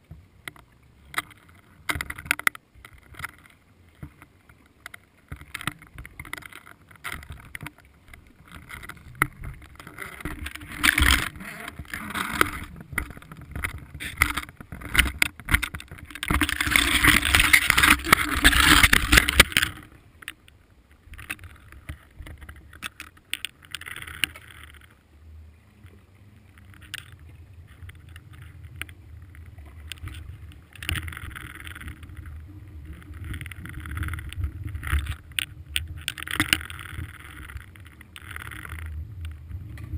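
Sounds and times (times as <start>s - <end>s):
rush of water: 0.0s - 39.9s.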